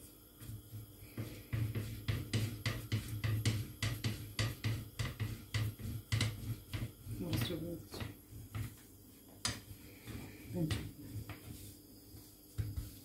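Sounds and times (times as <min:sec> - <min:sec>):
rolling pin rolling dough: 0:00.0 - 0:13.0.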